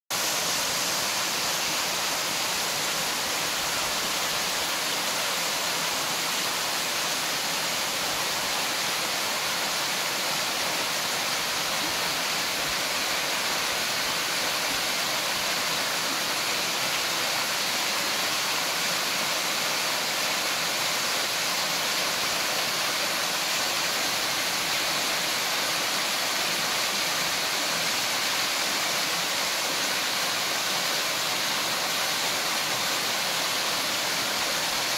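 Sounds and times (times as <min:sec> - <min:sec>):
waterfall rushing into pool: 0:00.1 - 0:34.9.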